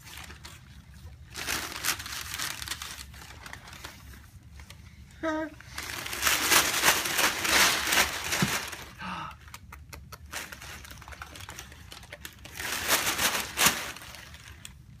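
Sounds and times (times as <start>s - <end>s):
tissue paper crinkling: 0.0s - 9.0s, 10.2s - 15.0s.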